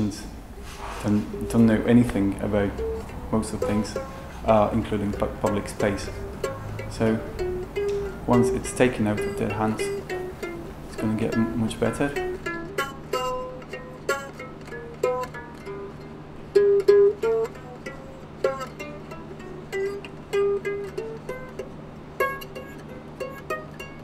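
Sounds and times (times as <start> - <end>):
plucked string melody: 0.0 - 24.0
steady low hum: 0.0 - 24.0.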